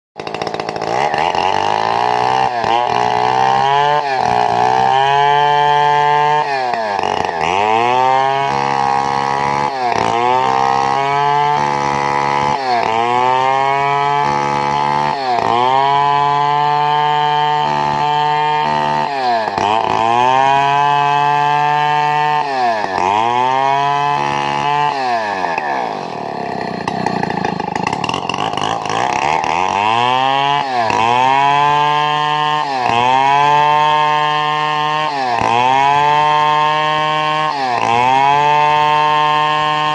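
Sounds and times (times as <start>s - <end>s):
chainsaw cutting wood: 0.2s - 39.9s.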